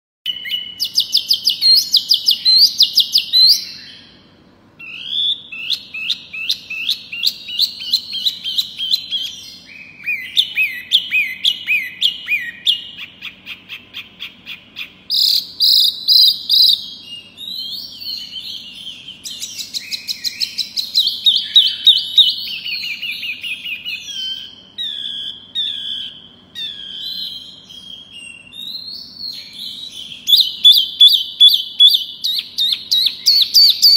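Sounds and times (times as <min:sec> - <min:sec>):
songbird singing whistled phrases: 0:00.3 - 0:33.9.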